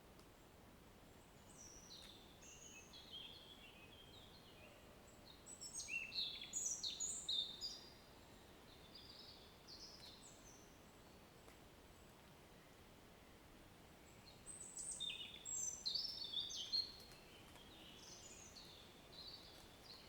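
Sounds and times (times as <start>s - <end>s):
faint steady hiss: 0.0s - 20.0s
songbird singing: 1.2s - 20.0s.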